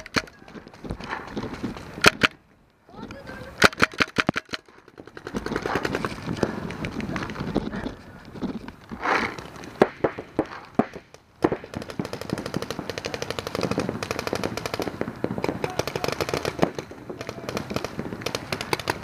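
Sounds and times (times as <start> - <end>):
paintball markers firing: 0.0 - 2.4, 3.5 - 7.6, 9.0 - 19.0.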